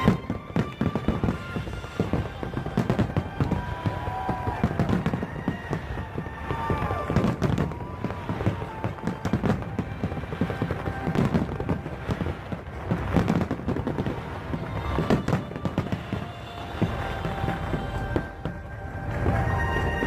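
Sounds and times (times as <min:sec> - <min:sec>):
fireworks bangs and pops: 0:00.0 - 0:20.0
music playing: 0:00.0 - 0:20.0.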